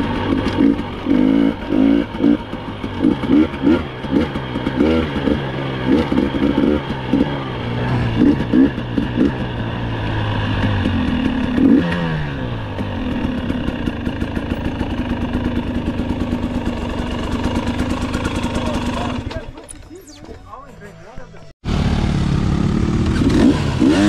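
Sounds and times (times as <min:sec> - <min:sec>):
vehicle engine revving and idling: 0:00.0 - 0:19.6, 0:21.6 - 0:24.0.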